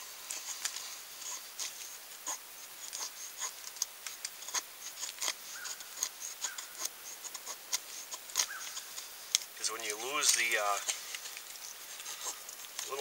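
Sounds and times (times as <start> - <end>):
knife scraping wooden stick: 0.2 - 13.0.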